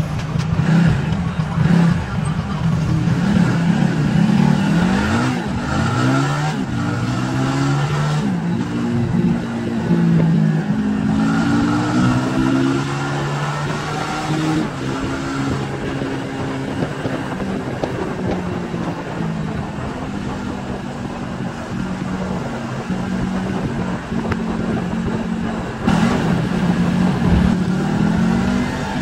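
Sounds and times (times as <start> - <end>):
motorcycle engine running: 0.0 - 13.8, 14.4 - 29.0
wind on microphone: 0.0 - 29.0.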